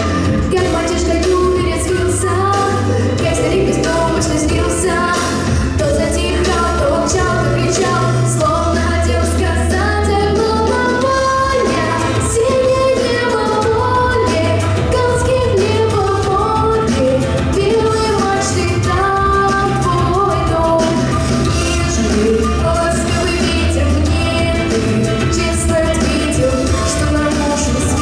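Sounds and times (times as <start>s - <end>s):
instrumental accompaniment with bass: 0.0s - 28.0s
woman singing slow song: 0.0s - 28.0s.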